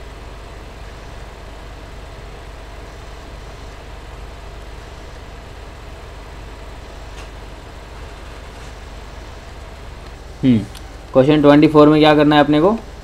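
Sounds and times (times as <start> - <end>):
low electrical hum and buzz: 0.0 - 13.0.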